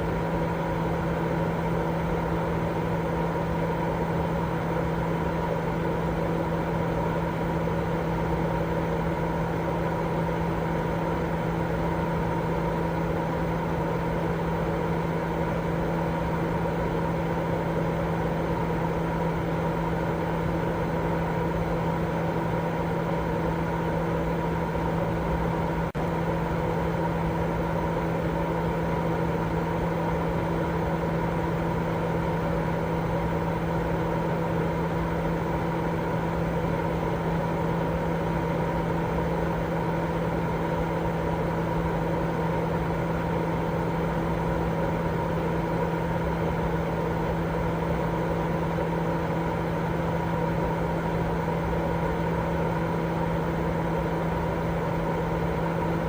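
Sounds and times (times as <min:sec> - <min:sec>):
steady white noise: 0:00.0 - 0:56.0.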